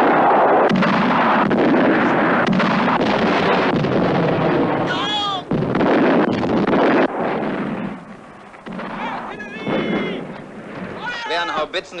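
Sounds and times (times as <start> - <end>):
gunshots: 0.0 - 11.6
artillery shells exploding: 0.0 - 12.0.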